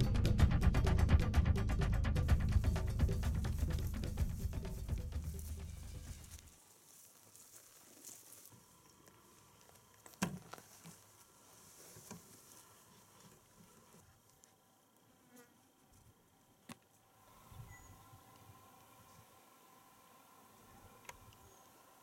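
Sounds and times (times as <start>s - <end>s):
faint insect buzzing: 2.4s - 22.0s.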